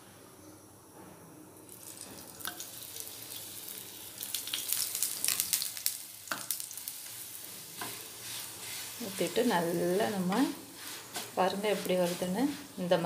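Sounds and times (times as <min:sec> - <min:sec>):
oil sizzling in a pan: 0:01.6 - 0:13.0.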